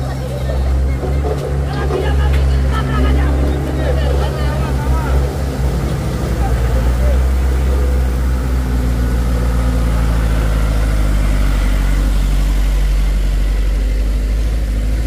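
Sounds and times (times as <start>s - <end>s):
diesel truck driving past: 0.0s - 15.0s.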